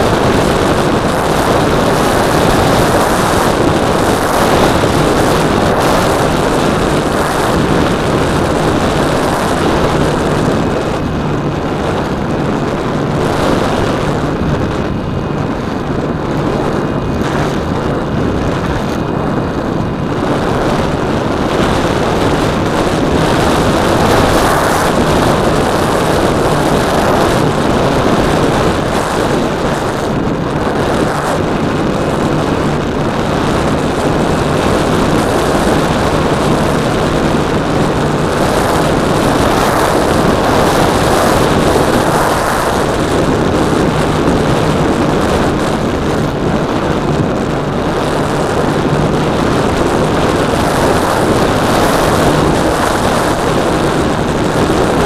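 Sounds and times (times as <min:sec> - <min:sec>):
electric motor and propeller: 0:00.0 - 0:55.0
wind rush over microphone: 0:00.0 - 0:55.0.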